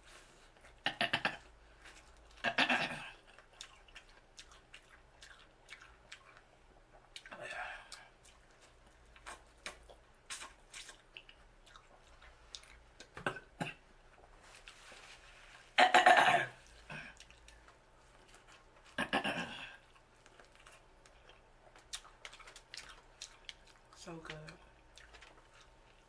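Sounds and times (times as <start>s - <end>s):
wet eating and chewing sounds: 0.0s - 15.8s, 16.5s - 26.0s.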